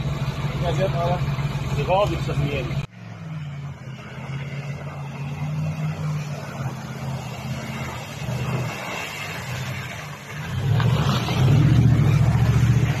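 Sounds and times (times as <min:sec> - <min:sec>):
suv engine driving: 0:00.0 - 0:13.0.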